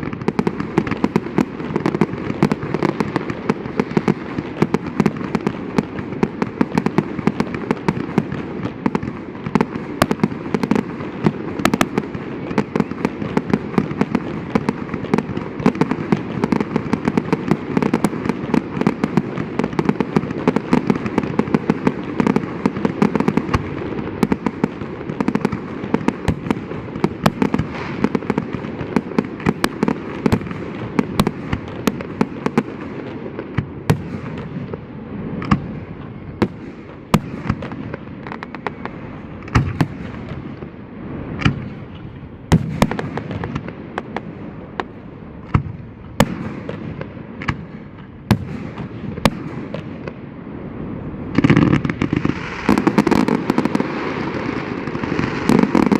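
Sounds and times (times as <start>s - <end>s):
fireworks bangs and crackling: 0.0s - 55.9s
fireworks low booms: 0.0s - 55.9s.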